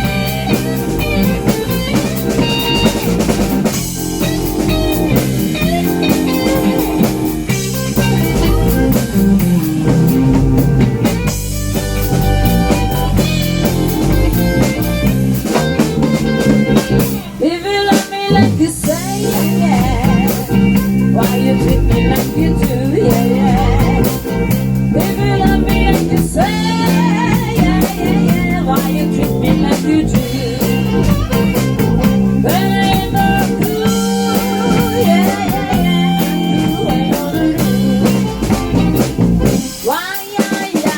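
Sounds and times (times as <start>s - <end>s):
electric lead guitar bending notes: 0.0s - 40.0s
blues band playing: 0.0s - 40.9s.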